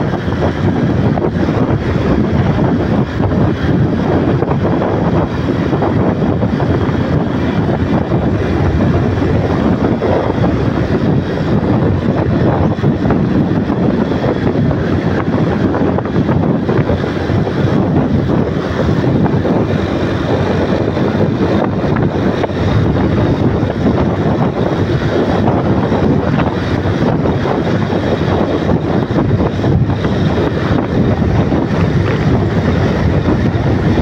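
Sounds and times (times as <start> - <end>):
motorbike engine hum: 0.0 - 34.0
tyres on road: 0.0 - 34.0
wind rush on microphone: 0.0 - 34.0.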